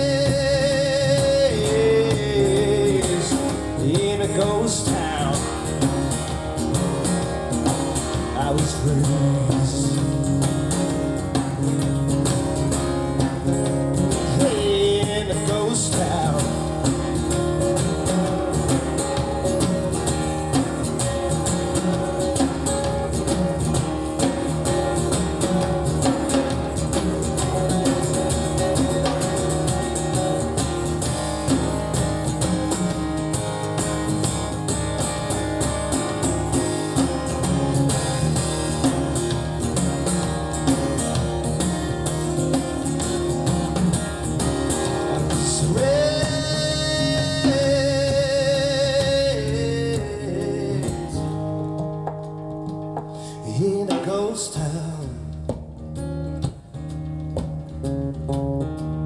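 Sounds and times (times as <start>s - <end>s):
guitar-led song with singing: 0.0s - 59.0s.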